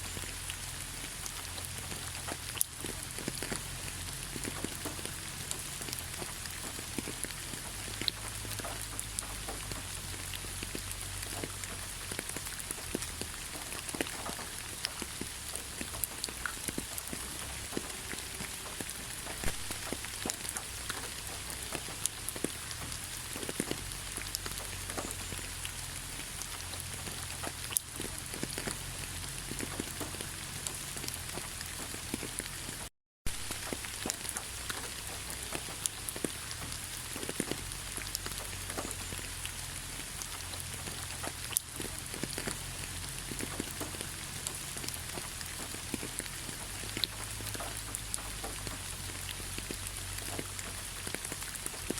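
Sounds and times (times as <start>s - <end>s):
raindrops ticking on branches: 0.0s - 51.9s
steady rain hiss: 0.0s - 51.9s.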